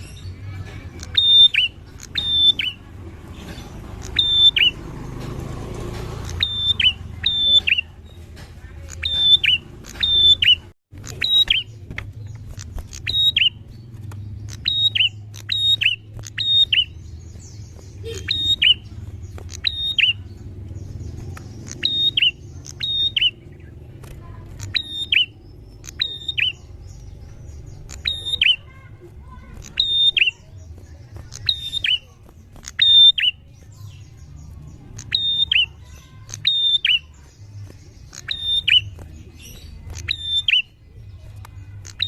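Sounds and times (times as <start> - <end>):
bird calling: 0.0 - 4.9, 6.2 - 42.0.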